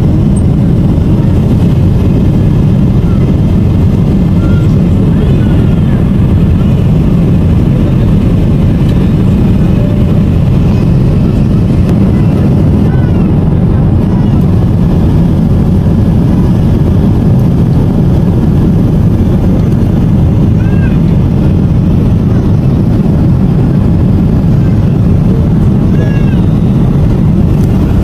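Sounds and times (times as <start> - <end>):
airliner cabin noise: 0.0 - 28.0.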